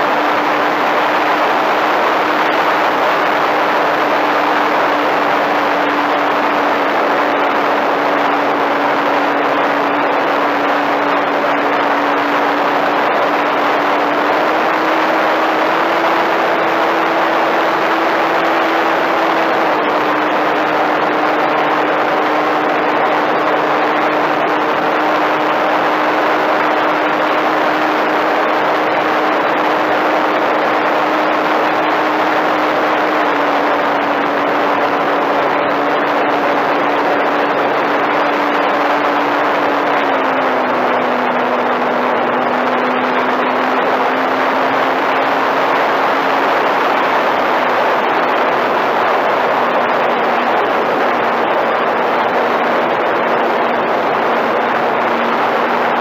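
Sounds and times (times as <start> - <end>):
electric motor and propeller hum: 0.0 - 56.0
loud wind rush: 0.0 - 56.0.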